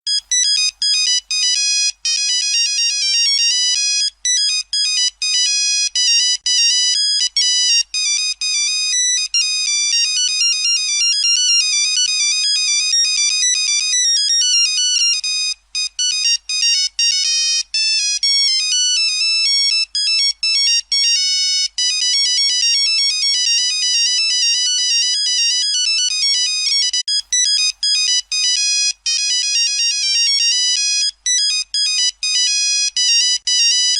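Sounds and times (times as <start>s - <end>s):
mobile phone ringtone beeps: 0.1s - 33.9s.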